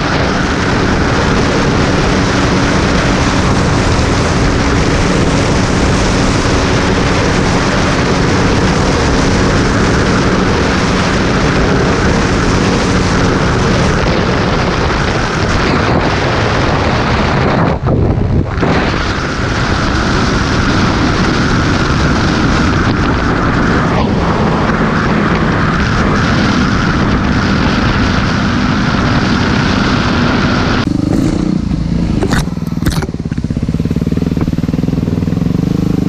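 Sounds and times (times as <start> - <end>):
motorcycle engine cruising: 0.0 - 36.0
wind rush on microphone: 0.0 - 36.0.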